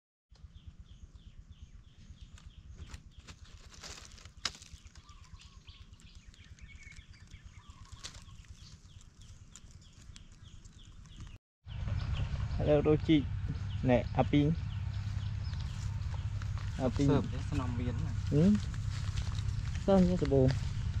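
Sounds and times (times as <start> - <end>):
low fluttering rumble: 0.4 - 21.0.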